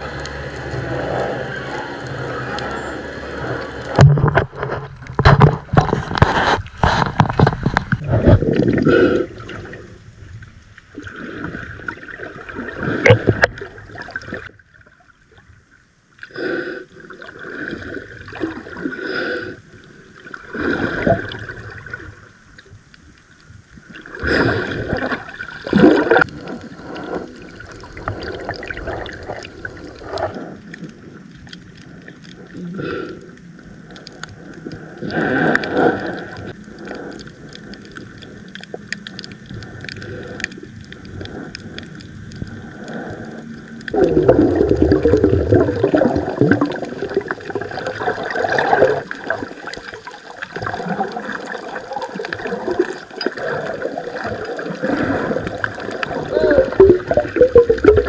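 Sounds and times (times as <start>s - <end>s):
water sloshing and gurgling: 0.0s - 58.0s.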